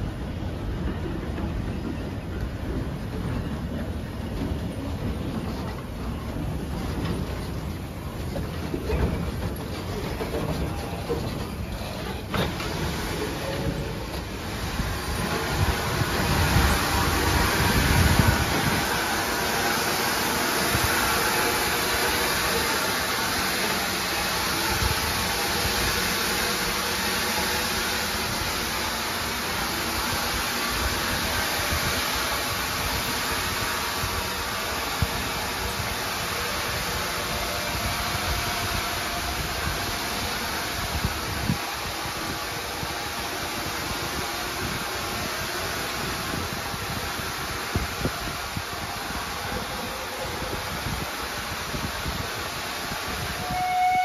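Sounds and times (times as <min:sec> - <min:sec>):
steam locomotive hissing steam: 0:00.0 - 0:54.0
train wheels rumbling on track: 0:00.0 - 0:54.0.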